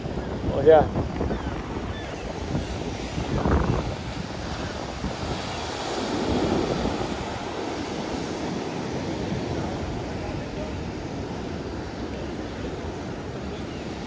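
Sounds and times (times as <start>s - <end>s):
ocean surf breaking on rocks: 0.0s - 14.0s
wind on microphone: 0.0s - 14.0s.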